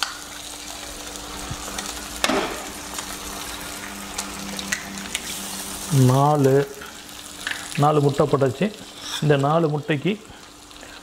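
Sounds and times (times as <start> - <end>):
eggs sizzling in oil: 0.0 - 11.0
oil crackling and popping: 0.0 - 11.0.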